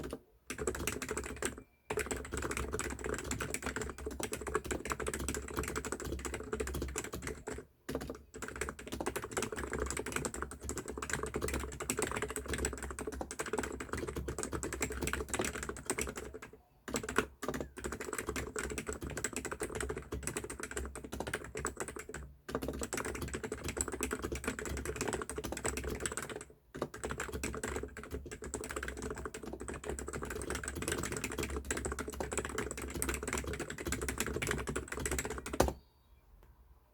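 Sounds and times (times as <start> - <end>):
fast keyboard typing: 0.0 - 35.8.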